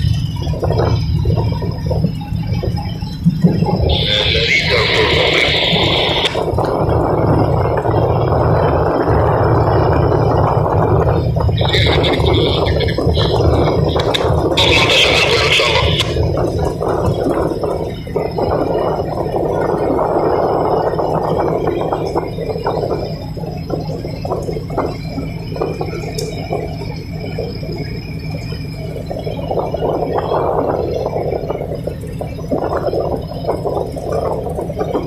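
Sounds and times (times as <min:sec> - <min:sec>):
boat engines rumbling: 0:00.0 - 0:35.0
surging rushing noise: 0:00.0 - 0:35.0.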